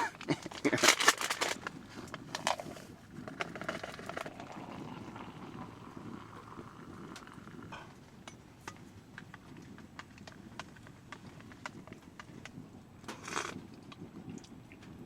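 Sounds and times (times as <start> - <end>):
water boiling in a pot: 0.5 - 15.0.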